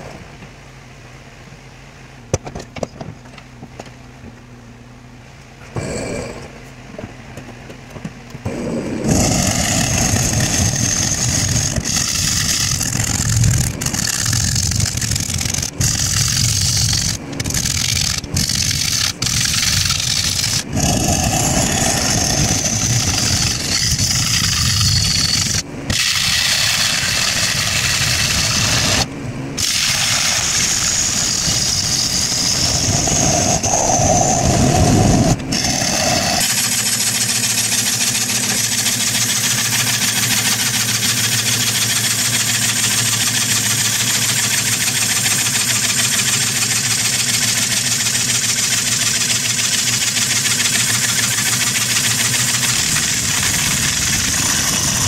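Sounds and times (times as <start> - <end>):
lathe running: 8.5 - 34.5, 35.3 - 55.0
gouge shearing wood on lathe: 8.5 - 55.0.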